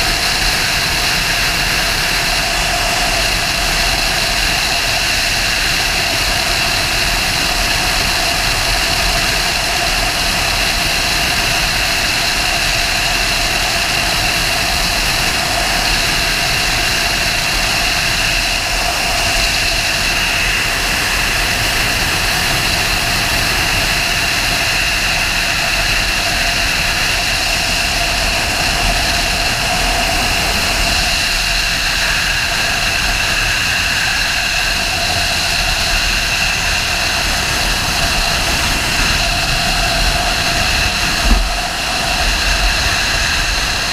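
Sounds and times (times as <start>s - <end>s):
steady whine: 0.0s - 43.9s
wind rush: 0.0s - 43.9s.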